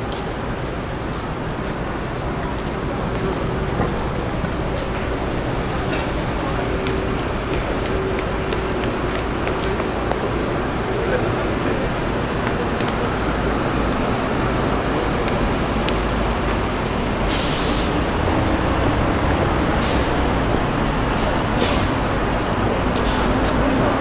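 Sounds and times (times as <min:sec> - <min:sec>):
heavy traffic rumble: 0:00.0 - 0:24.0.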